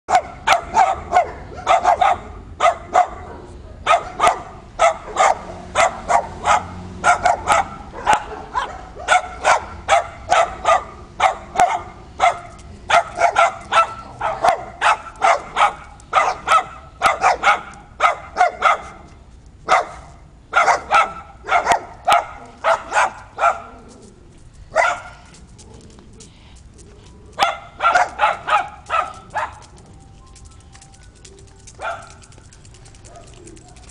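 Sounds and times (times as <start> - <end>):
dogs barking: 0.1 - 19.0, 19.7 - 23.9, 24.7 - 25.4, 27.3 - 30.0, 31.0 - 33.9.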